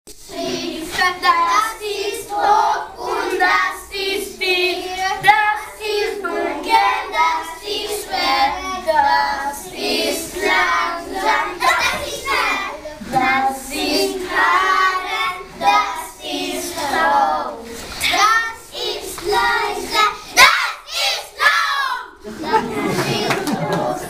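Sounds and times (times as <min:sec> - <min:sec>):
children singing: 0:00.2 - 0:24.0.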